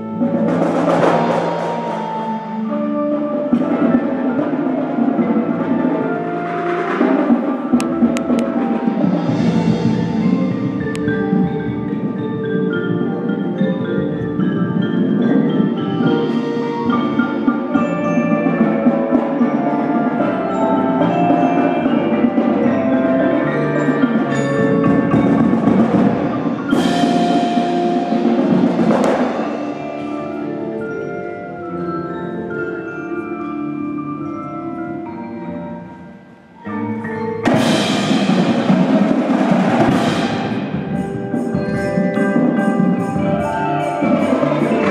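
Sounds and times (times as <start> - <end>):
marimbas playing: 0.0 - 44.9.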